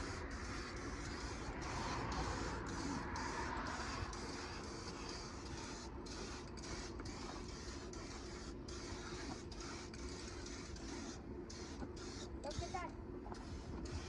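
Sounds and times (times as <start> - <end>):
spray paint can hissing: 0.0 - 14.0
steady low hum: 0.0 - 14.0.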